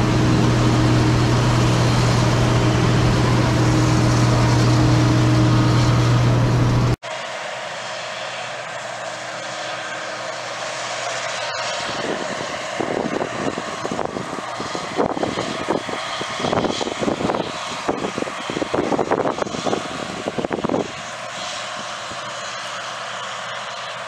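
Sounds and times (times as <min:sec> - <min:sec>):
combine harvester engine: 0:00.0 - 0:24.0.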